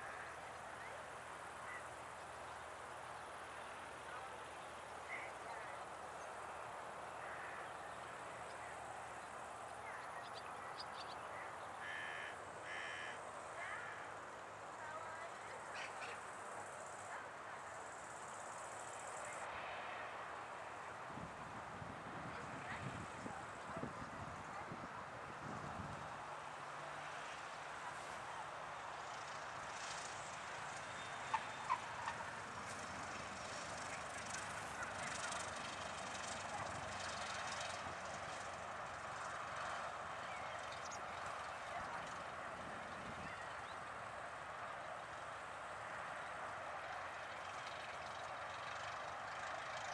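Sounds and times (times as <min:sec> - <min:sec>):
distant propeller plane drone: 0:00.0 - 0:49.9.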